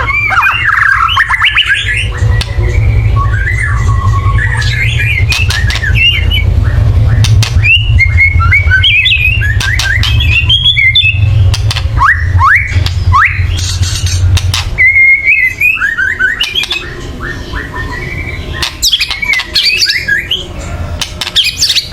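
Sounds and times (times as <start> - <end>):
bird song with rattles and whistles: 0.0 - 21.9
steady low hum: 0.0 - 21.9.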